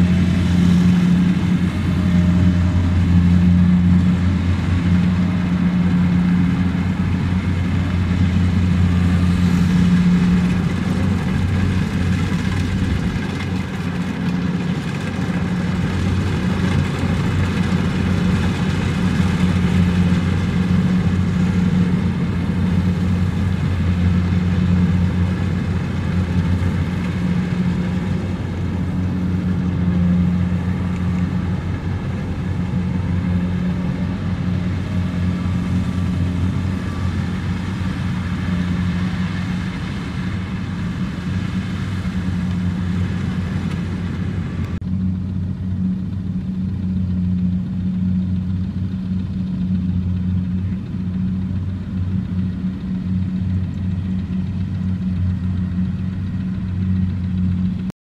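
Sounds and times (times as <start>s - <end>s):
combine harvester engine droning: 0.0s - 57.9s.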